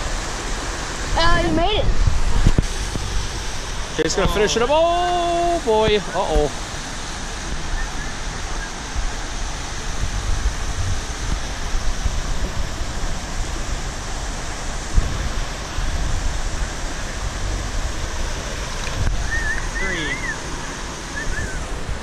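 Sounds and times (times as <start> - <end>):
running water: 0.0 - 22.0
wind rumbling on microphone: 0.0 - 22.0.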